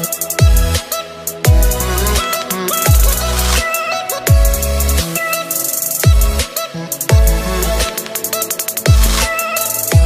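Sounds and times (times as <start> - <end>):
fast high ticking percussion: 0.0 - 3.6, 4.2 - 10.0.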